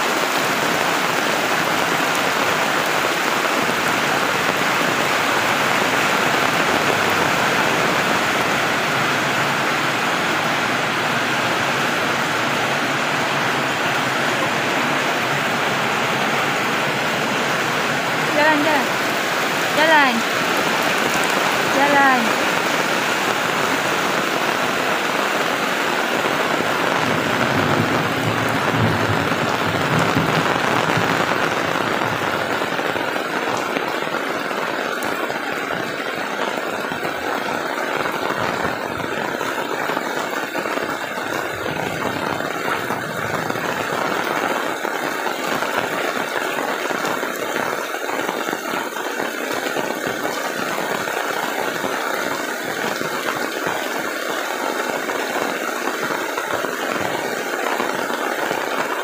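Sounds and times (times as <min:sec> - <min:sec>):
heavy rain on road and roofs: 0:00.0 - 0:59.0.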